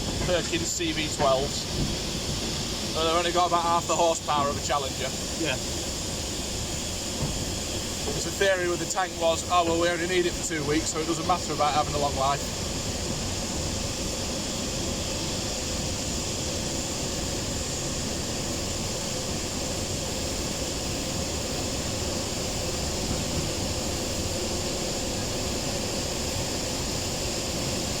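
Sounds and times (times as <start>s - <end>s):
heavy machinery drone: 0.0s - 28.0s.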